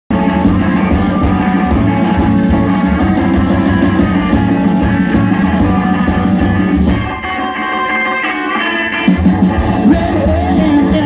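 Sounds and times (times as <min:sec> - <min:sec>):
pulsing bass line: 0:00.1 - 0:07.3, 0:09.1 - 0:11.0
drum beat with cymbals: 0:00.1 - 0:07.5, 0:09.1 - 0:11.0
electric guitar: 0:00.1 - 0:11.0.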